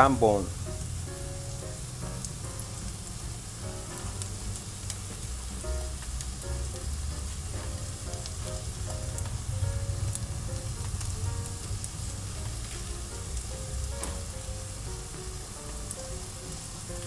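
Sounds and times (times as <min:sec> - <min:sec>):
batter sizzling in a frying pan: 0:00.0 - 0:17.0
oil popping: 0:00.0 - 0:17.0
soft background music: 0:00.0 - 0:17.0.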